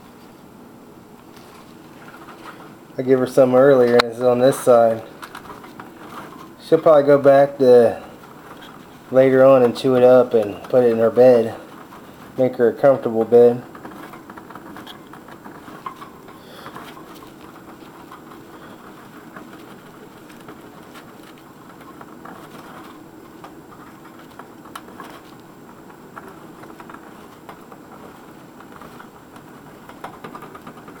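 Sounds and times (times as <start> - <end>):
hamster scratching in bedding: 1.3 - 31.0.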